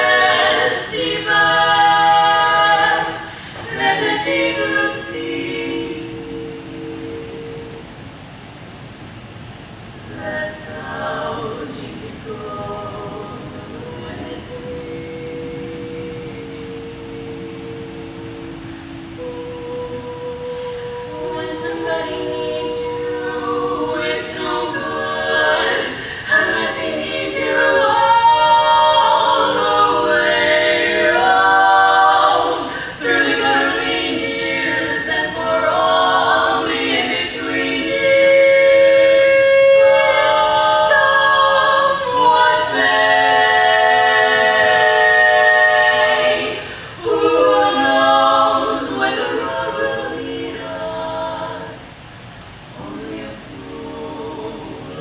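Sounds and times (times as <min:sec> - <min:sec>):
women singing a cappella harmony: 0:00.0 - 0:55.0.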